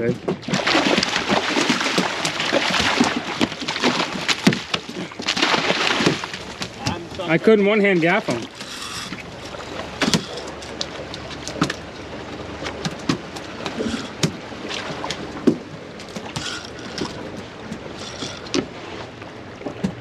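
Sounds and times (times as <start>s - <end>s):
water sloshing against boat hull: 0.0s - 20.0s.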